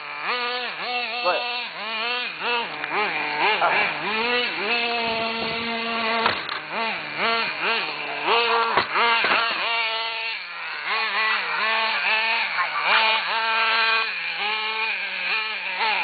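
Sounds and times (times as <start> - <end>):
small engine buzzing: 0.0 - 16.0.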